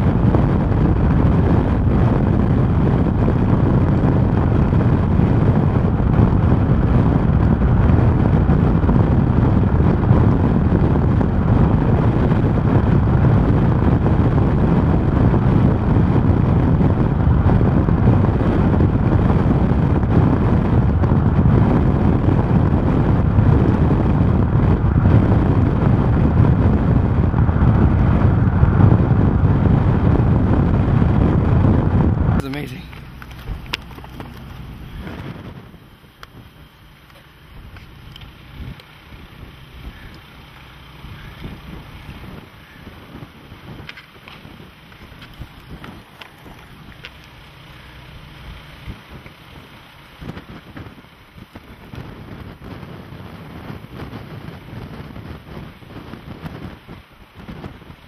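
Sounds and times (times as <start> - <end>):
low rush of wind noise: 0.0 - 58.0.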